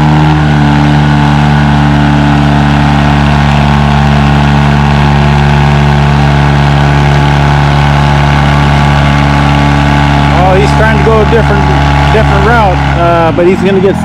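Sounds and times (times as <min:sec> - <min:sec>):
tractor diesel engine running hard: 0:00.0 - 0:14.0.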